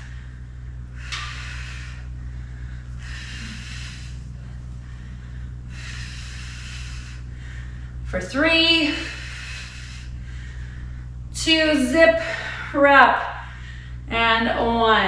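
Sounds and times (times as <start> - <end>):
woman breathing hard: 0.0 - 14.1
steady low hum: 0.0 - 15.0.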